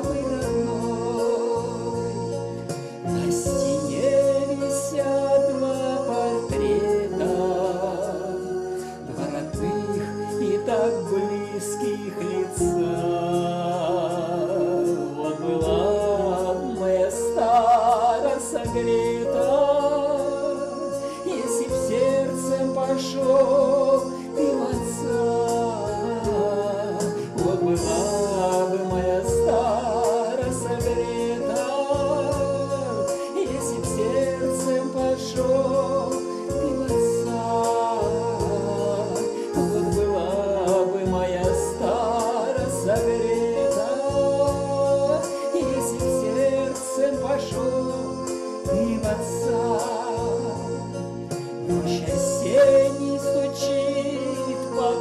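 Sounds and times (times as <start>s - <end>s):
button accordion playing: 0.0s - 55.0s
person singing: 0.0s - 55.0s.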